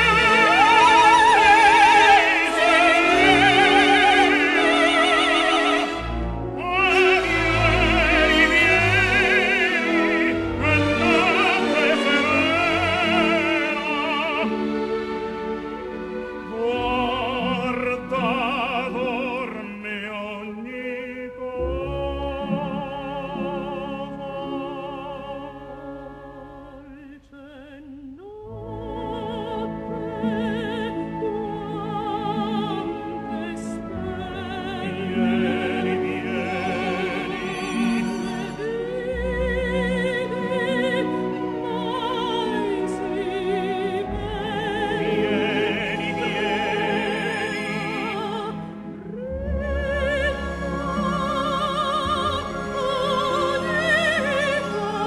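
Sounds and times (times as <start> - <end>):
orchestral accompaniment: 0.0 - 27.2, 28.4 - 55.0
operatic singing with vibrato: 0.0 - 55.0.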